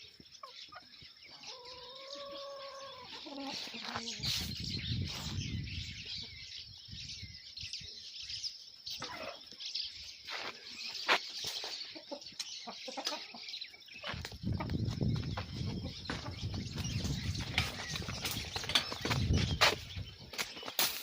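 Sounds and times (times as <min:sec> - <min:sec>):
chickens clucking: 0:00.0 - 0:06.5, 0:08.9 - 0:09.6, 0:10.2 - 0:21.0.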